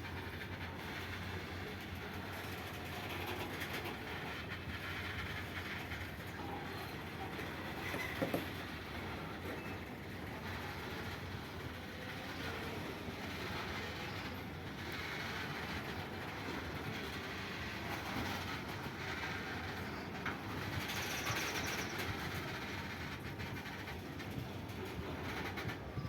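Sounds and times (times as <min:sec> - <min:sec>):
freight train wagons rolling: 0:00.0 - 0:26.0.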